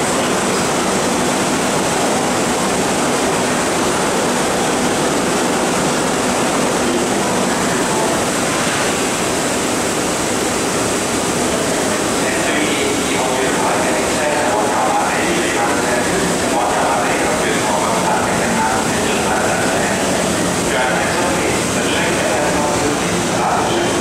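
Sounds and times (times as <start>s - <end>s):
metro train rushing past: 0.0s - 24.0s.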